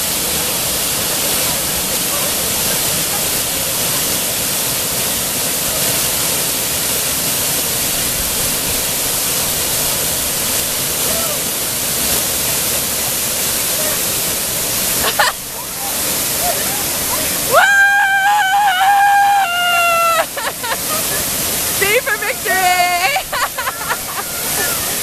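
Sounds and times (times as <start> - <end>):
water pouring and splashing: 0.0 - 25.0.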